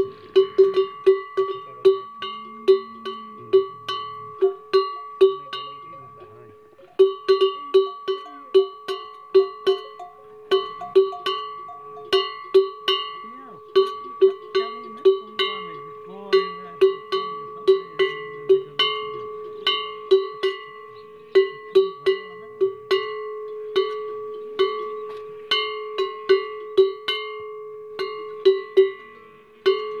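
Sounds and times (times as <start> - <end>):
metal bell clanging: 0.0 - 30.0.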